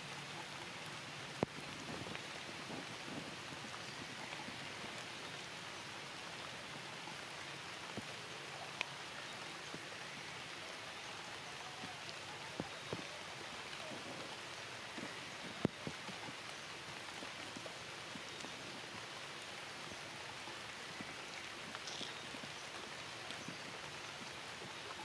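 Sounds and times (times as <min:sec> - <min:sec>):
rain hissing on foliage: 0:00.0 - 0:25.0.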